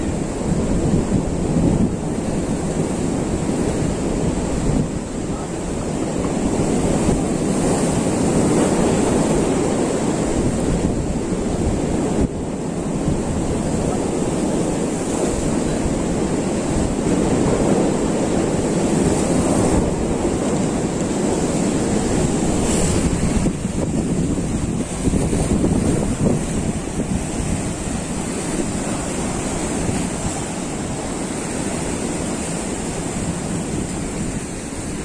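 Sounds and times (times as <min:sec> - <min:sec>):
surf breaking on rocks: 0:00.0 - 0:35.0
wind buffeting microphone: 0:00.0 - 0:35.0.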